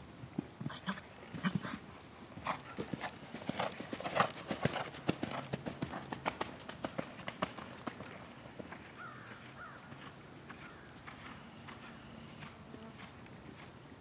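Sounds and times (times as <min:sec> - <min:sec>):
horse hooves cantering on sand: 0:00.3 - 0:14.0.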